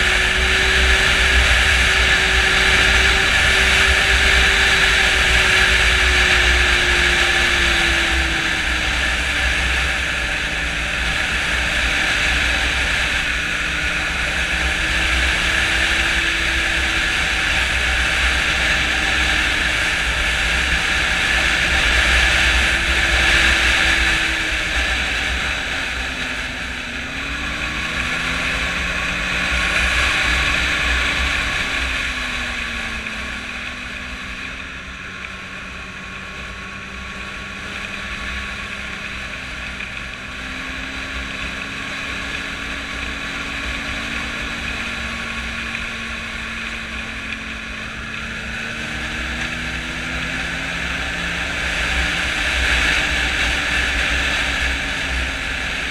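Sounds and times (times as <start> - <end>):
snowmobile engine running: 0.0 - 55.9.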